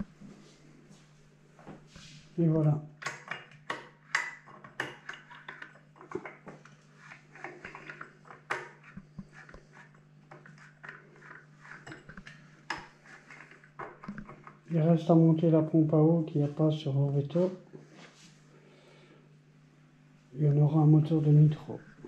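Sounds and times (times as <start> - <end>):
faint low hum: 4.0 - 22.0.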